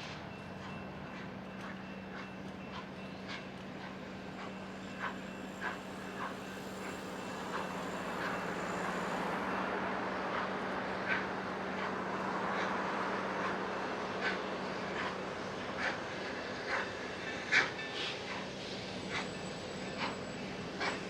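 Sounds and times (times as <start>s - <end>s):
passenger train running: 0.0s - 21.0s.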